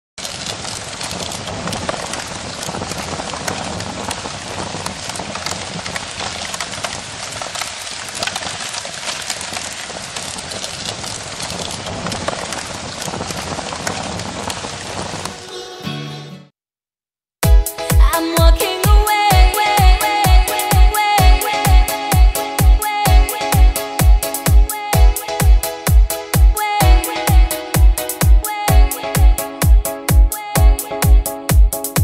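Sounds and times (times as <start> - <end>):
fire crackling: 0.2 - 15.5, 19.1 - 32.0.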